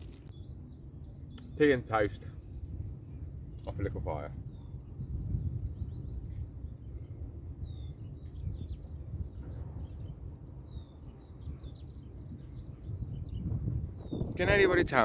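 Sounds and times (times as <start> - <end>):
wild birds singing: 0.0 - 15.0
wind rumble on microphone: 0.0 - 15.0.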